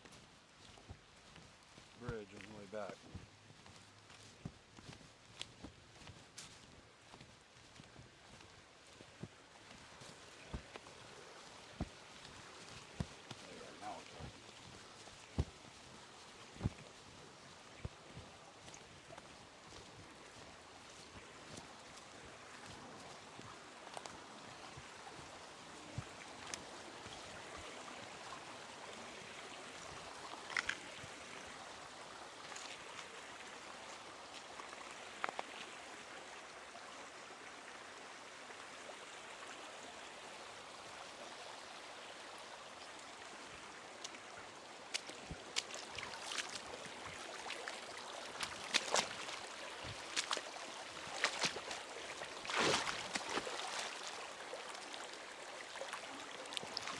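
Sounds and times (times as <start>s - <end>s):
creek water bubbling: 0.0s - 56.9s.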